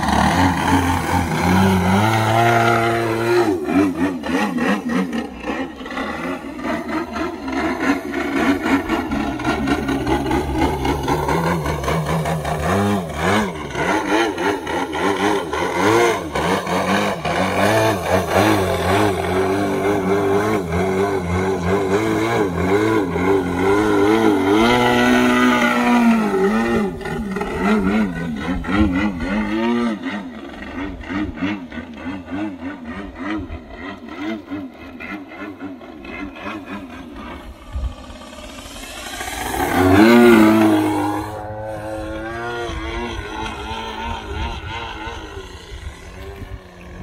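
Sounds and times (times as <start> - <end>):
model plane engine wavering: 0.0 - 47.0.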